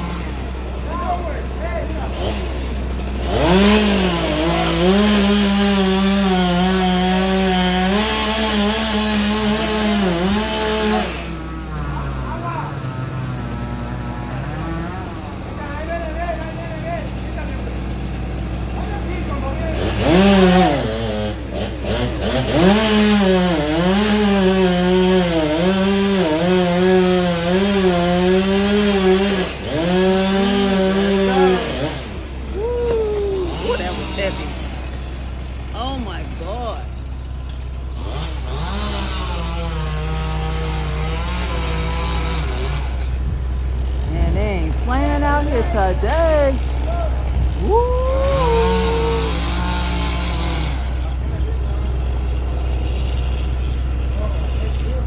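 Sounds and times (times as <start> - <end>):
chainsaw cutting wood: 0.0 - 35.9, 37.1 - 55.0
low engine hum: 0.0 - 55.0.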